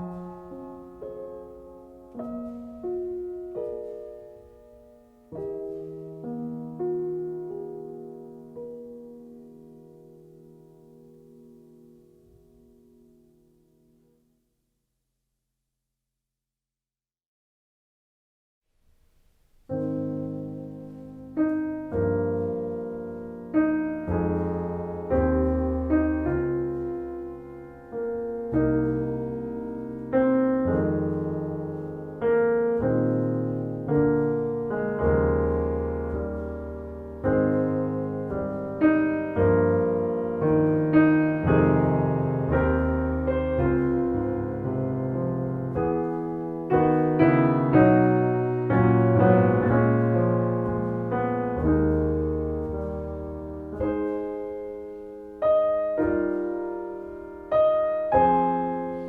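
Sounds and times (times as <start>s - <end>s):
slow solo piano: 0.0s - 14.4s, 18.9s - 59.0s.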